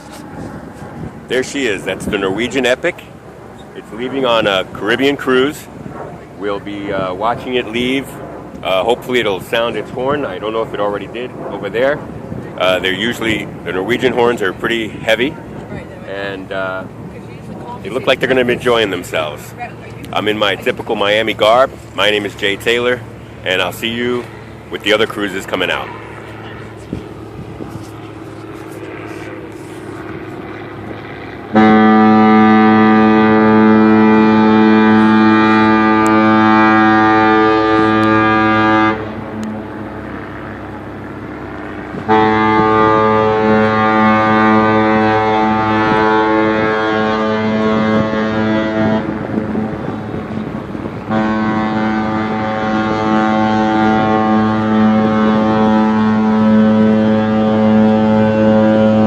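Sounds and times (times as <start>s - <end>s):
ship's horn blasts: 0.0s - 59.0s.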